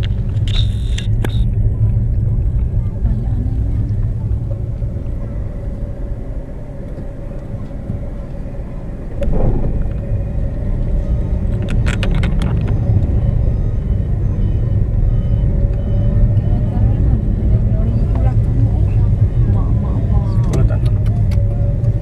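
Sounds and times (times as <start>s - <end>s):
faint engine tone: 0.0s - 22.0s
road traffic rumble: 0.0s - 22.0s.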